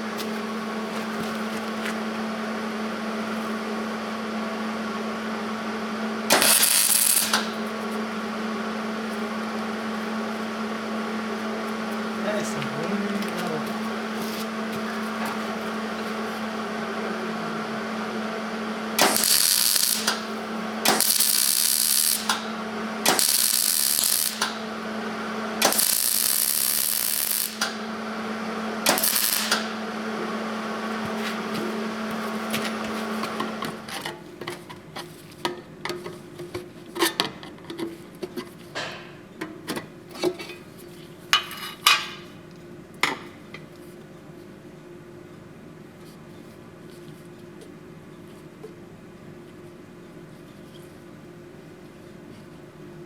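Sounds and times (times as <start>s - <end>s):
steady machine hum: 0.0s - 50.2s.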